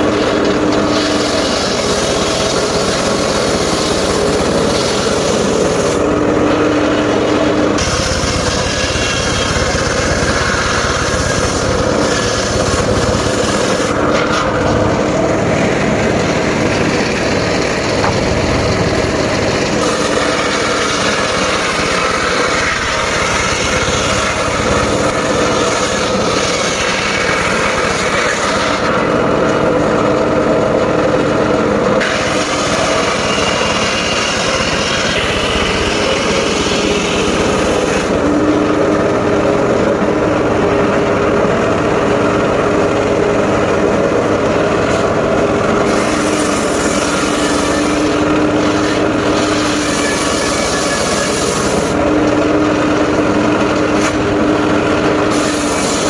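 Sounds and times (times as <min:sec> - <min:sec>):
engine hum: 0:00.0 - 0:56.0
saw blade cutting log: 0:00.0 - 0:56.0.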